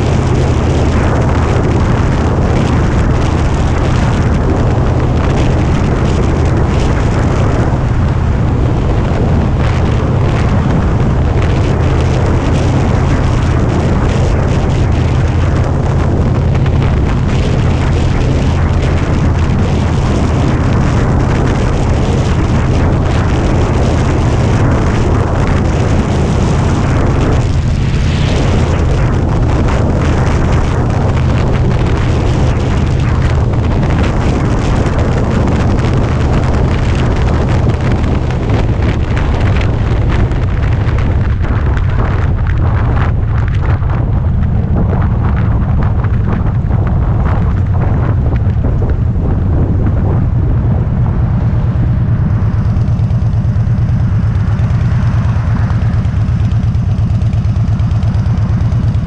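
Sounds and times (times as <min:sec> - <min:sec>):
motorcycle engine running: 0:00.0 - 0:59.0
wind on microphone: 0:00.0 - 0:59.0.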